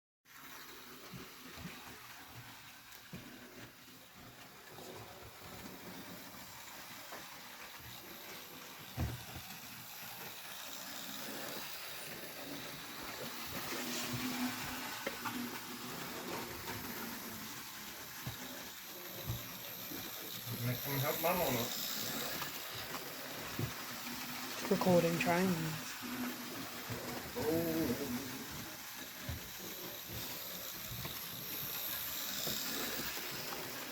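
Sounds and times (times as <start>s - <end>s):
model train running on track: 0.3s - 33.9s.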